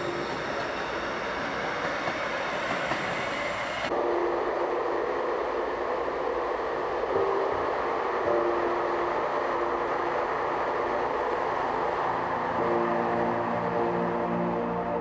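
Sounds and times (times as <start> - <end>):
light-rail train passing: 0.0 - 15.0
noise inside moving train car: 0.0 - 15.0.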